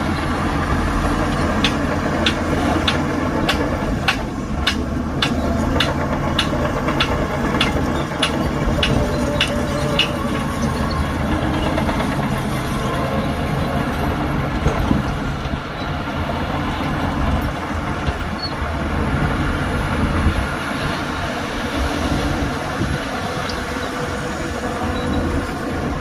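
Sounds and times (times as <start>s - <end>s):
heavy machinery diesel rumble: 0.0s - 26.0s.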